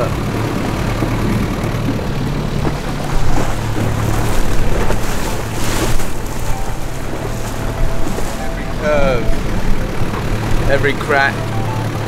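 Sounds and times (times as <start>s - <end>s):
boat engine droning: 0.0s - 12.0s
wind and water rushing: 0.0s - 12.0s.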